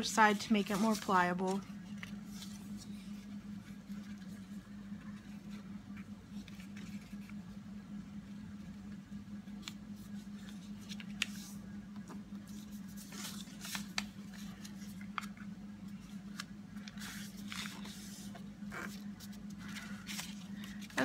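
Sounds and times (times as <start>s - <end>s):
paper being folded and creased: 0.0s - 7.6s, 8.3s - 21.0s
steady low hum: 0.0s - 21.0s.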